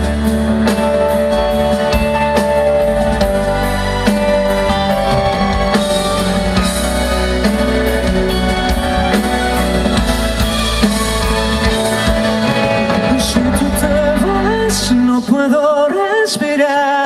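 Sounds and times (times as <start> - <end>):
steady drum beat: 0.0 - 15.5
live band playing a ballad: 0.0 - 17.0.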